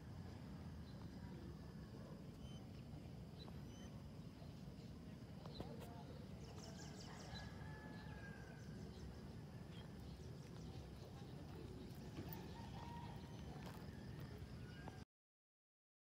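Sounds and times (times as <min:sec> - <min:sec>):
distant birds chirping: 0:00.2 - 0:15.0.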